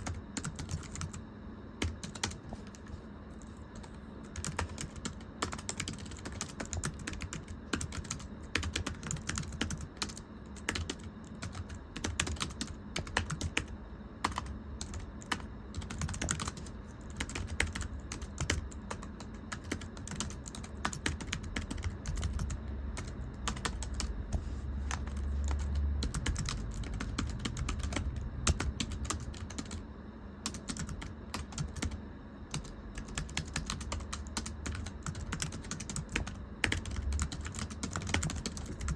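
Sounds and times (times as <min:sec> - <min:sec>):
fast typing on computer keyboard: 0:00.0 - 0:01.2, 0:01.8 - 0:02.9, 0:03.8 - 0:24.1, 0:24.9 - 0:29.8, 0:30.4 - 0:38.9.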